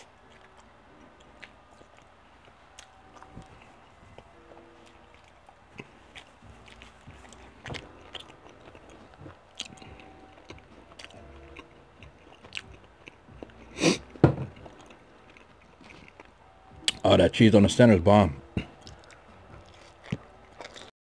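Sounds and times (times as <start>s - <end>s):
person chewing food: 0.0s - 17.0s, 18.4s - 20.9s.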